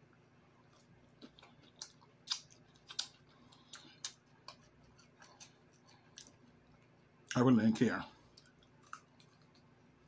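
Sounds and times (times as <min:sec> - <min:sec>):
chewing crisp chips: 0:00.4 - 0:10.0.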